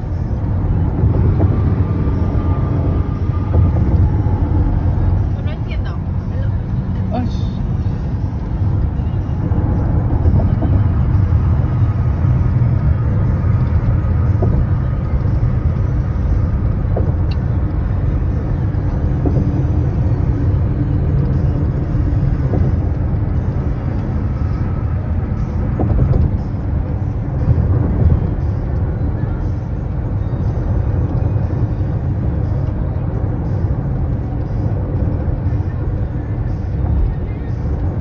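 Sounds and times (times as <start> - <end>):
road and tyre rumble in car: 0.0 - 38.0.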